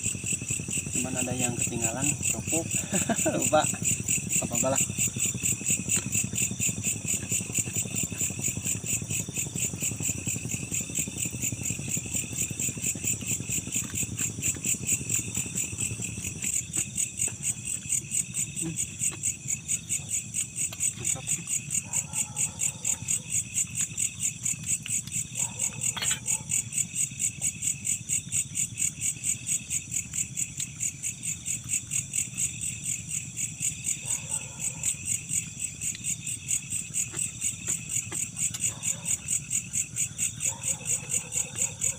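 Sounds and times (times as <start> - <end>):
insects chirping: 0.0 - 41.9
lower insect calls: 0.0 - 41.9.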